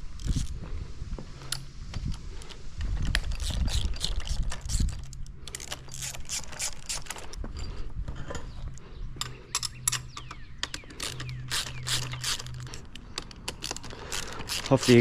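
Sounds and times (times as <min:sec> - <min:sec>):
hand tools clicking and rattling: 0:01.5 - 0:15.0.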